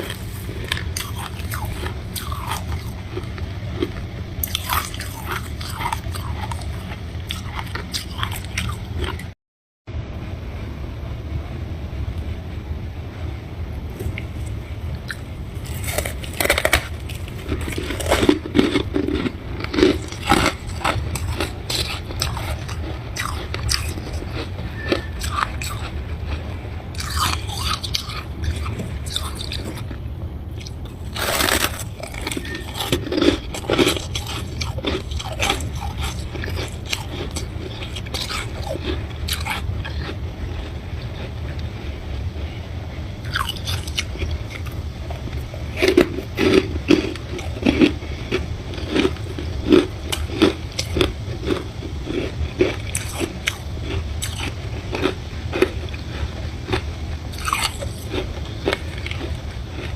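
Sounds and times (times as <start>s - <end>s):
person chewing crunchy frost: 0.0s - 9.4s, 13.9s - 59.9s
low hum: 0.0s - 59.9s.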